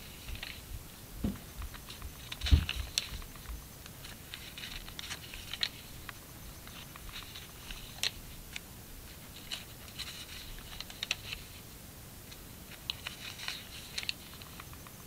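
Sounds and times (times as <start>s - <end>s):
paper pages rustling and crinkling: 0.0s - 0.6s, 1.2s - 11.6s, 12.3s - 15.0s.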